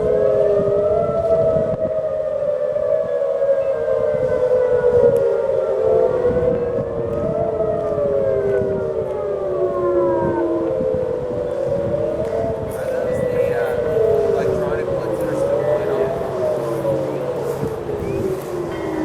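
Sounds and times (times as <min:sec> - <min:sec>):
warning sirens rising and falling: 0:00.0 - 0:19.0.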